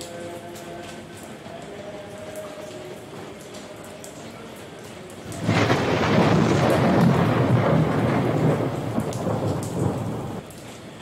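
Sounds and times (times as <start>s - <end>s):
rain pattering on concrete: 0.0s - 11.0s.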